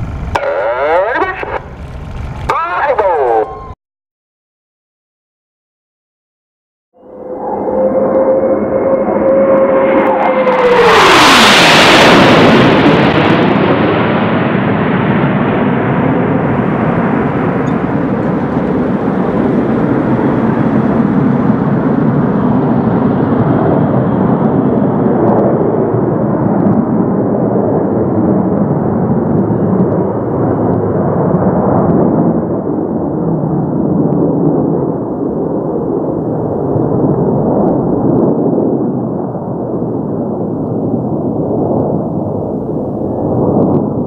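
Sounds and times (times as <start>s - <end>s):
jet passing low overhead: 0.0s - 3.8s, 7.0s - 44.0s.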